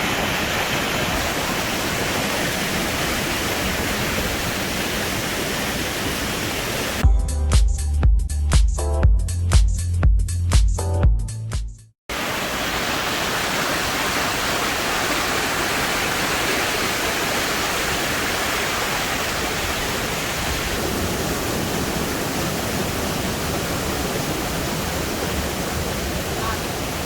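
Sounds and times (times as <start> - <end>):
waterfall roaring: 0.0 - 7.0, 12.1 - 27.0.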